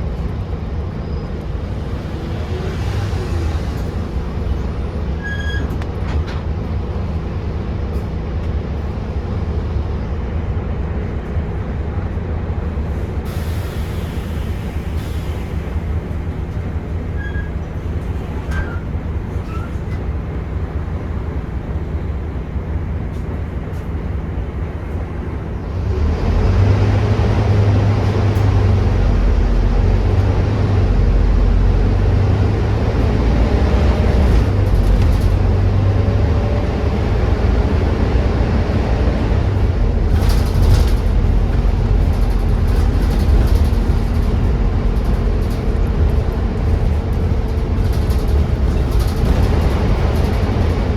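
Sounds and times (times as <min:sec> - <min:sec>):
diesel bus engine from inside: 0:00.0 - 0:50.9.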